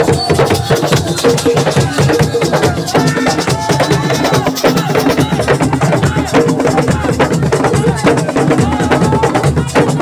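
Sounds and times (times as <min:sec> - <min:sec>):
fast rhythmic drumming: 0:00.0 - 0:10.0.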